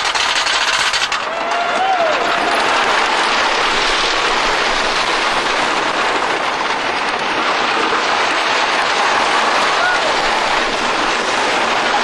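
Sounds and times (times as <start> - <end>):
roller coaster train on wooden track: 0.0 - 12.0.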